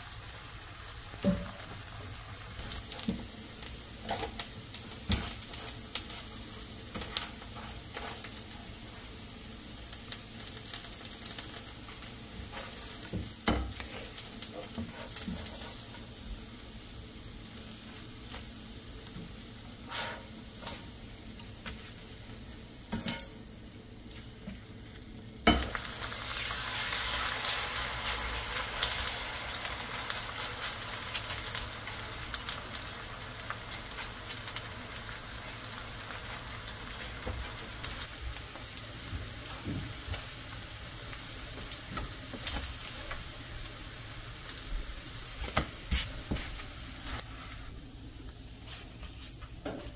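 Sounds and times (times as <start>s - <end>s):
food sizzling in oil: 0.0s - 49.9s.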